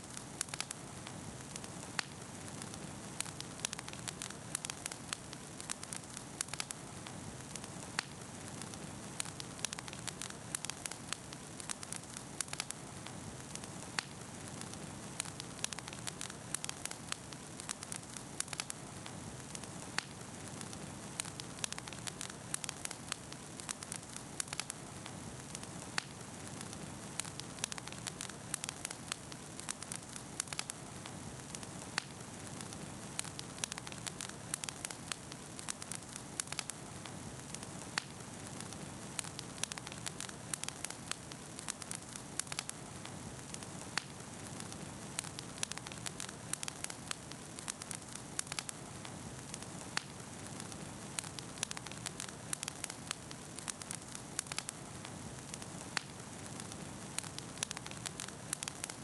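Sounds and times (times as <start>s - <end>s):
bonfire crackling and popping: 0.0s - 59.0s.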